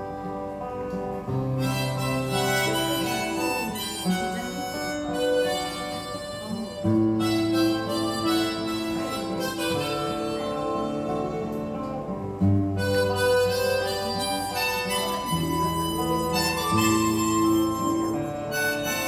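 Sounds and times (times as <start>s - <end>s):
acoustic guitar accompaniment: 0.0s - 19.0s
harmonica melody: 0.0s - 19.0s.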